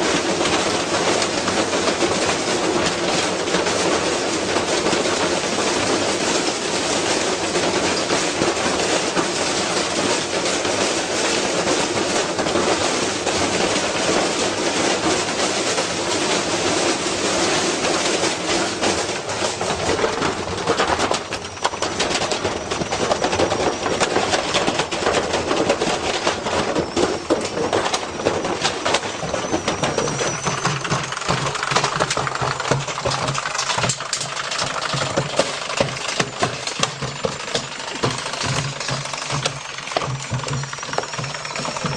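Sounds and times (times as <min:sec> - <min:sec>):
washing machine banging and rattling: 0:00.0 - 0:41.9.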